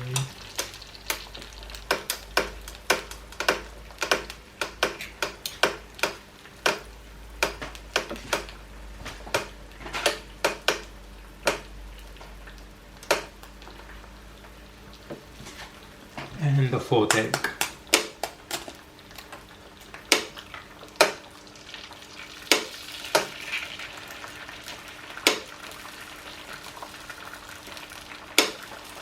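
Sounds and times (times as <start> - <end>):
faint sizzle: 0.0 - 29.0
oil popping and crackling: 0.0 - 29.0.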